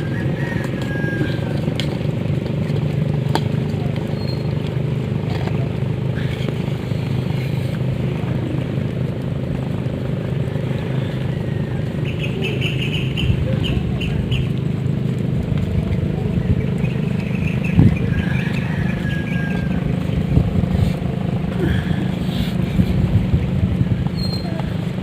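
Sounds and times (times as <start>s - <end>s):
small engine humming: 0.0s - 25.0s.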